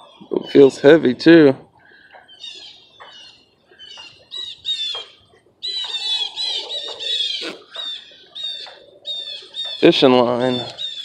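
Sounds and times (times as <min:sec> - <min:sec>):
birds squawking: 0:00.0 - 0:11.0.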